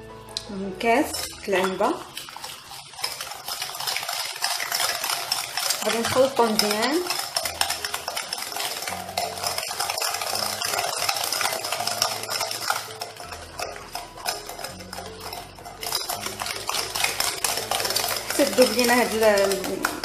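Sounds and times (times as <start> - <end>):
whisk beating in a glass bowl: 0.4 - 20.0.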